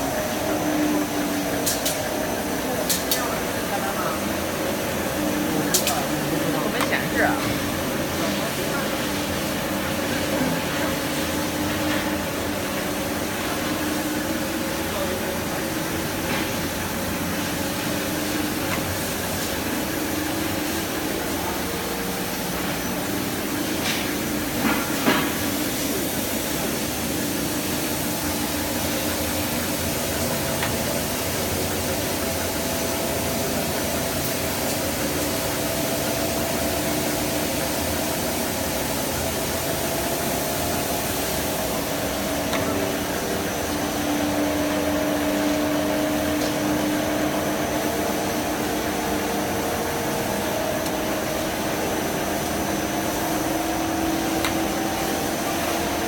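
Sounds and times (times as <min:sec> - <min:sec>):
wire drawing machine humming: 0:00.0 - 0:56.0.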